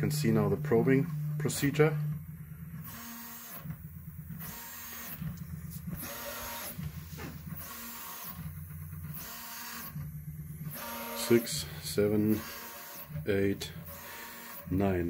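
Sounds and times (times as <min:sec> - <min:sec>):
stepper motors whirring: 0:00.0 - 0:15.0.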